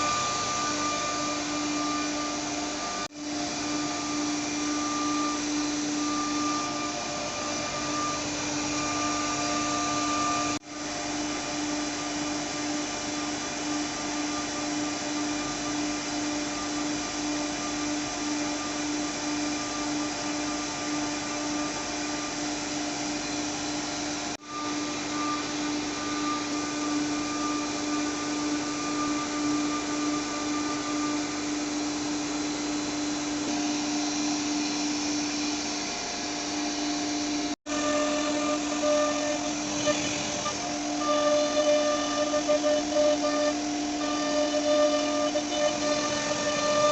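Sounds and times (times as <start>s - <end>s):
router spindle whining: 0.0s - 46.9s.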